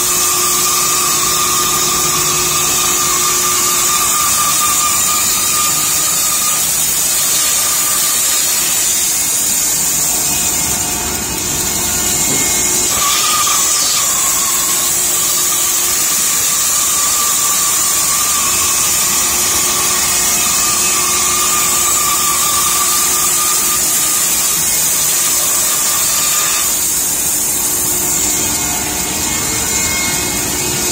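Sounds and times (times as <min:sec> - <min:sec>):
saw whining through wood: 0:00.0 - 0:30.9.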